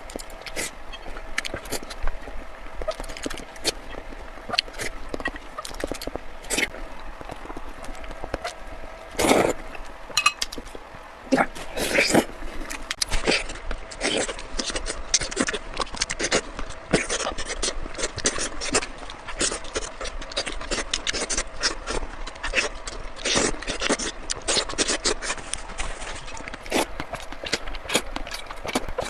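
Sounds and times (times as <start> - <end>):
wet chewing: 0.0 - 10.9, 11.5 - 29.0.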